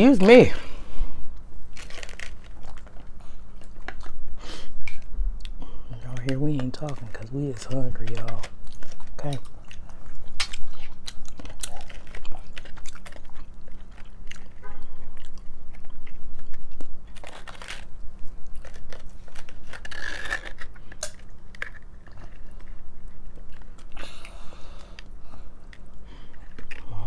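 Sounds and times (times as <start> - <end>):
chewing crunchy tacos: 1.4 - 27.0.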